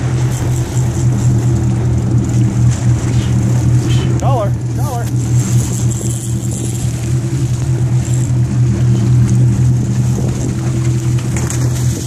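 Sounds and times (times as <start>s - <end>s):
boat engine droning: 0.0s - 12.0s
water splashing at hull: 0.0s - 12.0s.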